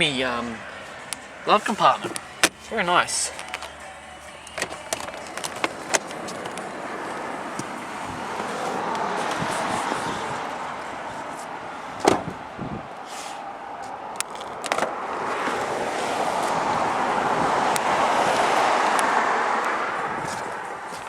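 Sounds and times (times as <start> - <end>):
road vehicle passing by: 0.0 - 21.0.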